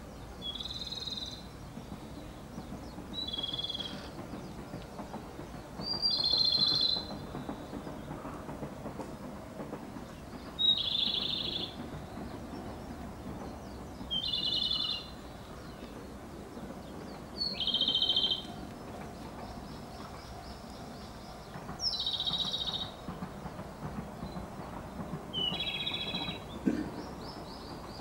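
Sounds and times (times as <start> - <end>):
bird trilling song: 0.4 - 4.8, 5.4 - 8.1, 10.4 - 23.1, 25.3 - 28.0.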